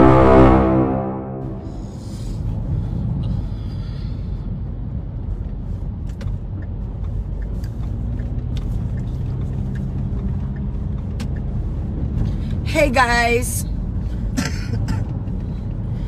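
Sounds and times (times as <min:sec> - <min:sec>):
car cabin engine and road rumble: 0:01.7 - 0:16.0.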